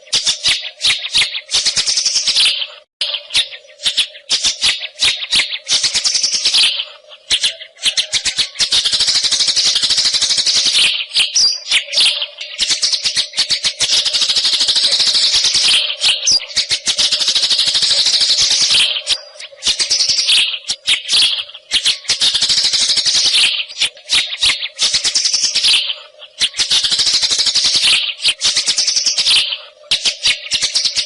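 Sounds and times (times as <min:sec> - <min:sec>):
bird singing rattling trills: 0:00.0 - 0:31.0.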